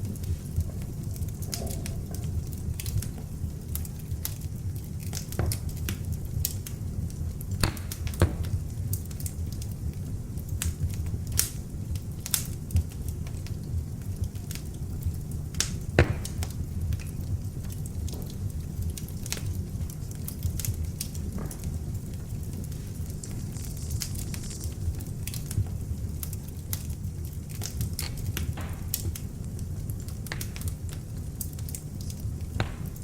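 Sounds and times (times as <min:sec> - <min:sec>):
fire crackles and pops: 0:00.0 - 0:33.0
low rumble of fire: 0:00.0 - 0:33.0.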